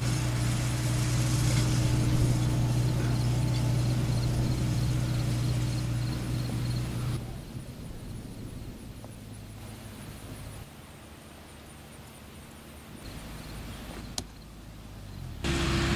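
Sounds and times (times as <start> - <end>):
tractor engine running: 0.0 - 10.6, 13.0 - 15.9.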